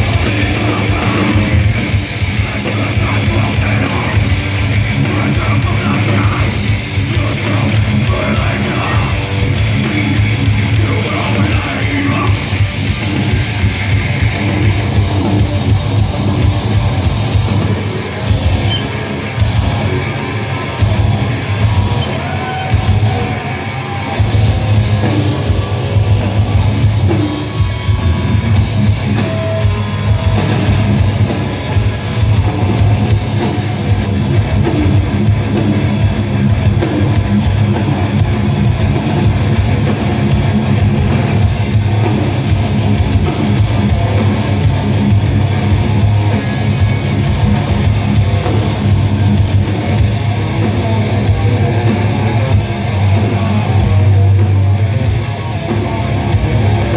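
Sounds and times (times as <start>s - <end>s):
live heavy metal band playing: 0.0s - 56.9s.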